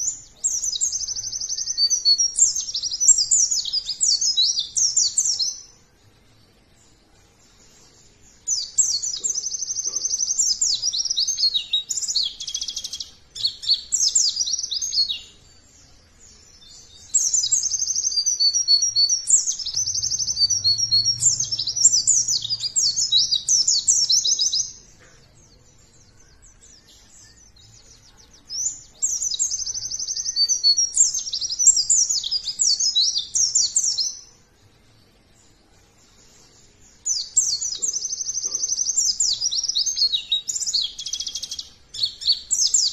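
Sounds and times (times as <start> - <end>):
bird high twittering song: 0.0 - 42.9.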